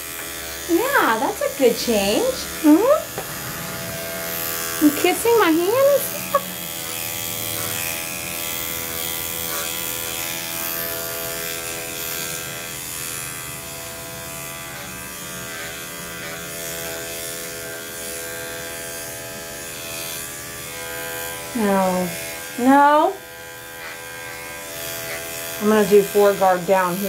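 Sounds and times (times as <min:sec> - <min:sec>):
electric clippers buzzing: 0:00.0 - 0:27.0.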